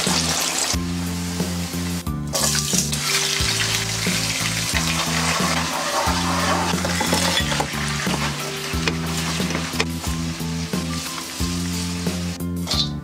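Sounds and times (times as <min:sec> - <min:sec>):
hot oil sizzling in a pan: 0:00.0 - 0:12.9.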